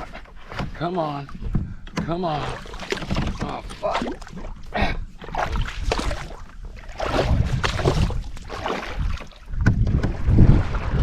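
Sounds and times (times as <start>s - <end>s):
water knocks and splashes: 0.0s - 11.0s
wind rumbling on microphone: 0.0s - 11.0s.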